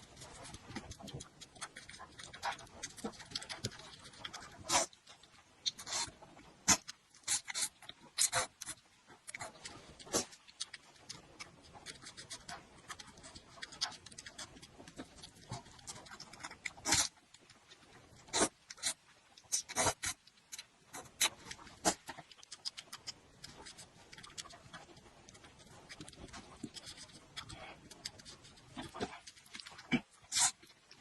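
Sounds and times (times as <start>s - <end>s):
wet chewing and mouth smacks: 0.0s - 31.0s.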